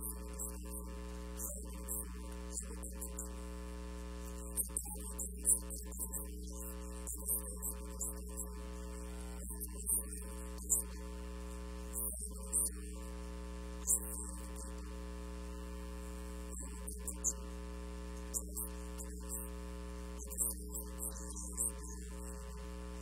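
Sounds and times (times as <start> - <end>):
electrical mains hum: 0.0 - 23.0
faint hissing s-sounds of speech: 0.0 - 23.0.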